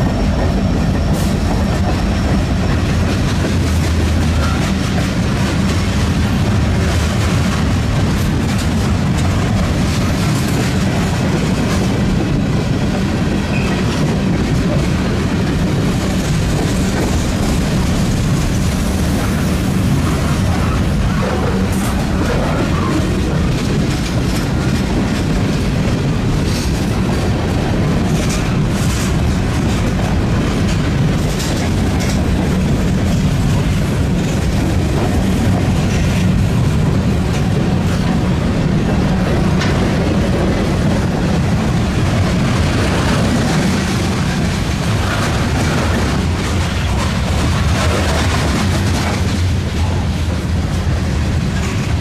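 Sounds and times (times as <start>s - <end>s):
train wheels rolling on rails: 0.0s - 52.0s
wheels clicking over rail joints: 0.0s - 52.0s.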